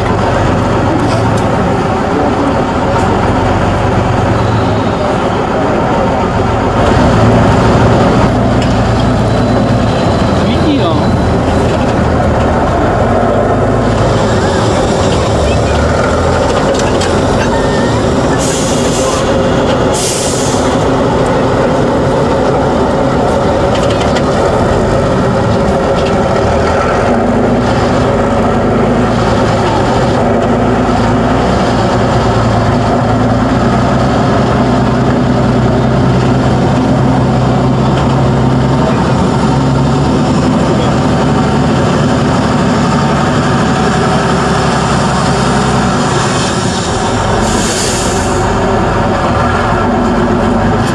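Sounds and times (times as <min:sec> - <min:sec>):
truck diesel engine working hard: 0:00.0 - 0:50.9.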